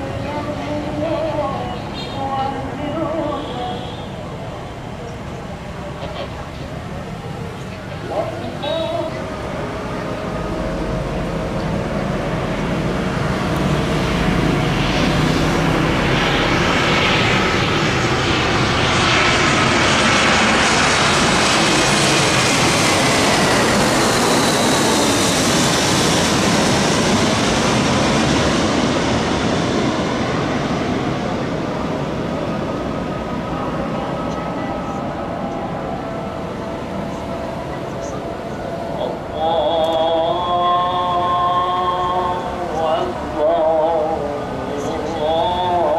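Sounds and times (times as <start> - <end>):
airplane engines passing: 0.0 - 45.9.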